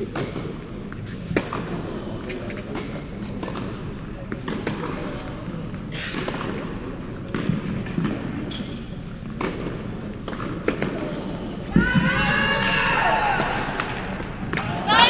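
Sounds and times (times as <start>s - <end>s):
tennis balls struck and bouncing: 0.0s - 12.1s, 12.8s - 15.0s.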